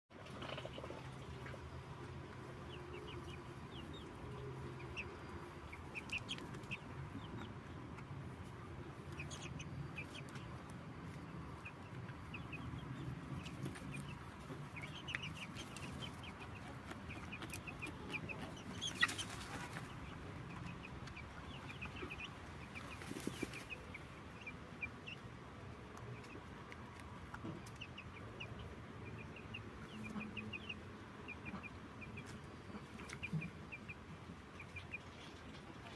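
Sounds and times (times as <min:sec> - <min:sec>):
chickens clucking: 0:00.1 - 0:35.9.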